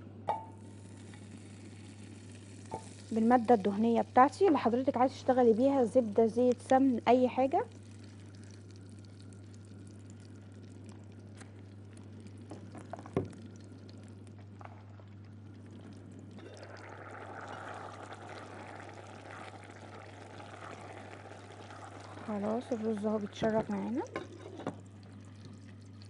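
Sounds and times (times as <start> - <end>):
rice bubbling in a pot: 0.3 - 26.0.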